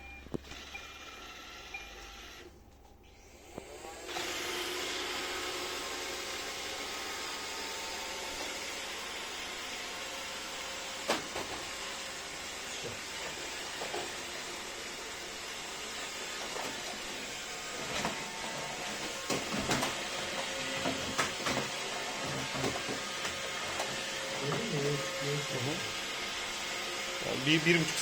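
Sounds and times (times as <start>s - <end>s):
robot vacuum whirring: 0.3s - 28.0s.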